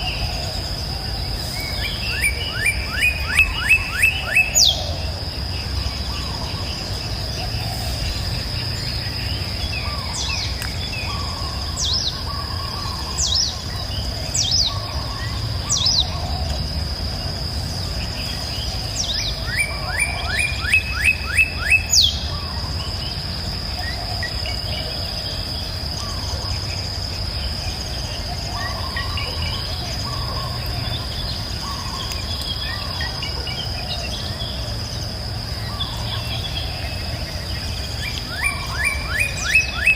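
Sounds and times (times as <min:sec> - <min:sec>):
birds calling: 0:00.0 - 0:39.9.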